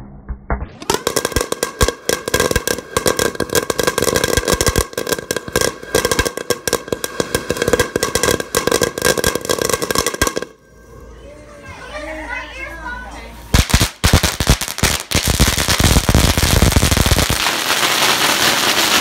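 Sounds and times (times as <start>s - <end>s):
fireworks crackling: 0.8s - 10.6s, 13.5s - 19.0s.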